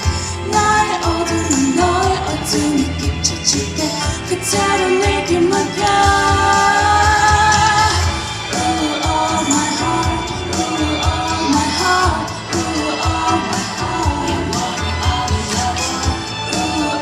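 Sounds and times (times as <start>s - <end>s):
backing track with bass beat: 0.0s - 17.0s
person singing pop song: 0.0s - 17.0s.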